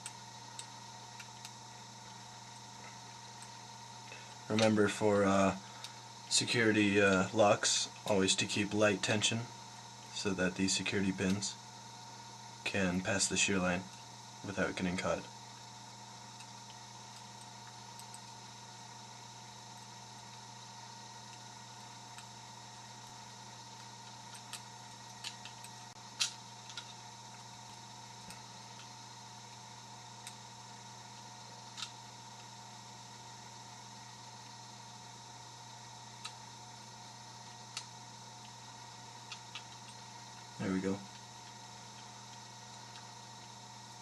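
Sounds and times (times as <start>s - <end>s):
low electrical hum and hiss: 0.0s - 44.0s.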